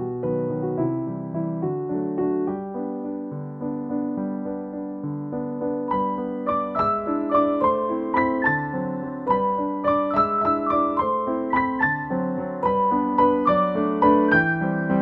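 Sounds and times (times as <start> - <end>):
gentle solo piano: 0.0 - 15.0.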